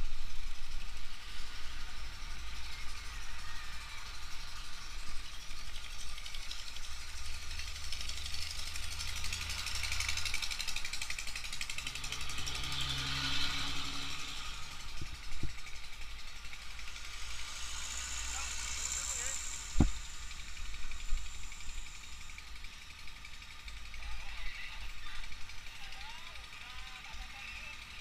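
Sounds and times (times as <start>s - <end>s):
deeper engine hum: 0.0s - 28.0s
motorcycle engine rattling: 0.0s - 28.0s
road and wind noise: 0.0s - 28.0s.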